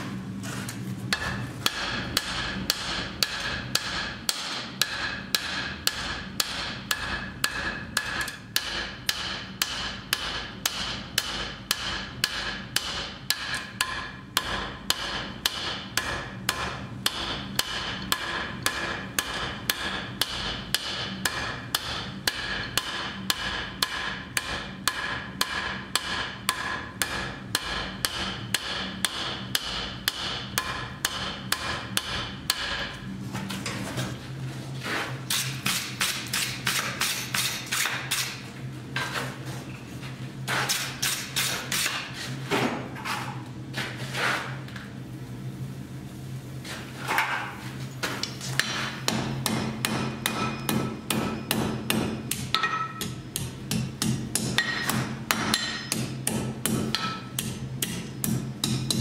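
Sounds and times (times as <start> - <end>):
hammer striking iron on anvil: 1.1 - 33.0, 35.3 - 38.4, 40.6 - 42.1, 48.2 - 59.0.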